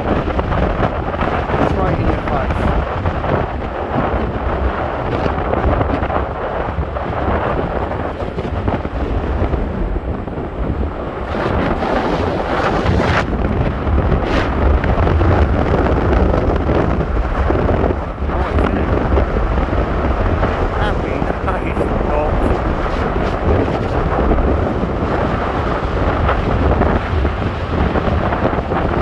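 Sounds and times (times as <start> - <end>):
gale wind buffeting microphone: 0.0 - 29.0.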